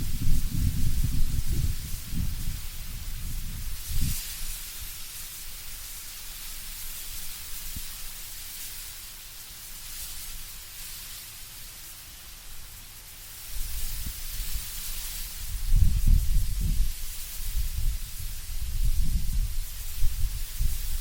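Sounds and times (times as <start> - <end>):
wind rustling tree leaves: 0.0 - 21.0.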